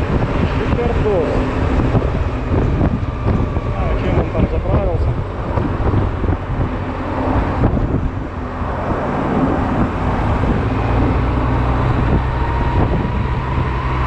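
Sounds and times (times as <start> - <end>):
scooter engine and road rumble: 0.0 - 14.0
wind buffeting microphone: 0.0 - 14.0.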